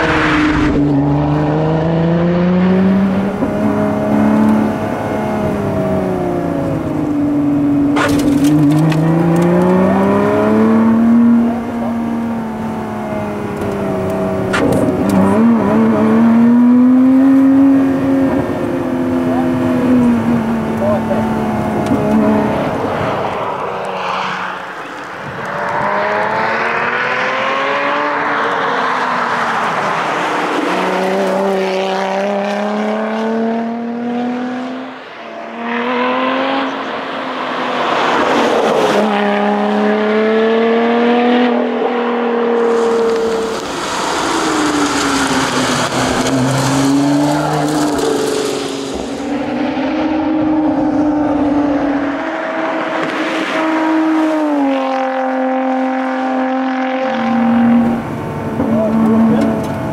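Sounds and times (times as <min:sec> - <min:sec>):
sports car engine revving past: 0:00.0 - 0:59.9.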